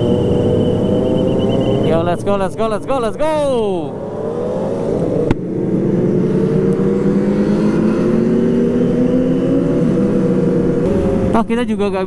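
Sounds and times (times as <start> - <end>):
motorcycle engine pulling away: 0.0 - 2.2, 3.9 - 11.5.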